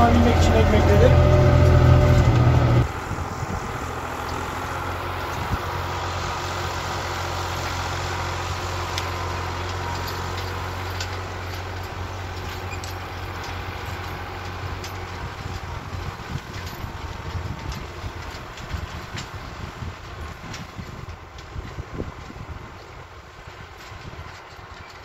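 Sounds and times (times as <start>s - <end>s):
distant tractor engine under load: 0.0s - 25.0s.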